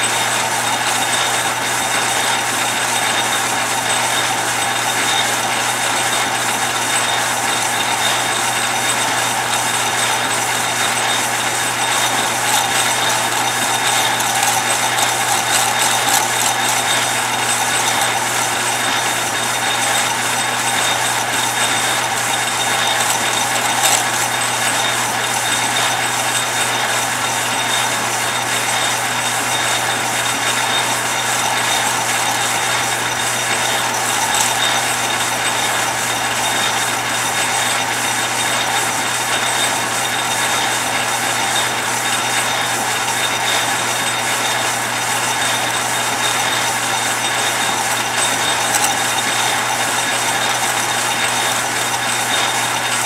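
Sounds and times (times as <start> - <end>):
metal lathe running: 0.0 - 53.0.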